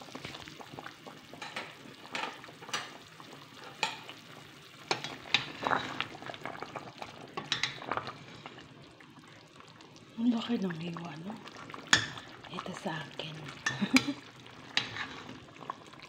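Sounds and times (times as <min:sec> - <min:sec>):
broth bubbling in metal pot: 0:00.0 - 0:16.0.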